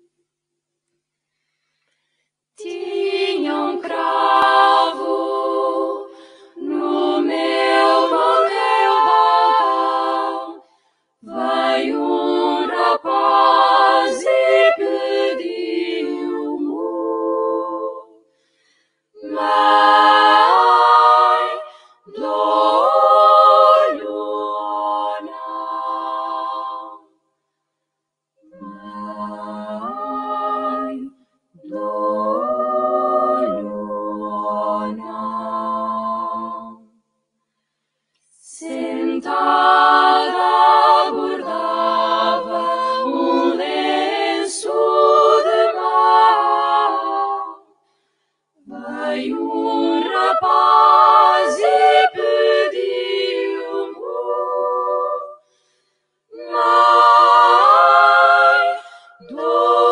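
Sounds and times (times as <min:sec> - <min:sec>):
women singing a cappella: 0:02.6 - 0:18.2, 0:19.2 - 0:27.2, 0:28.4 - 0:37.0, 0:38.3 - 0:47.8, 0:48.6 - 0:59.9.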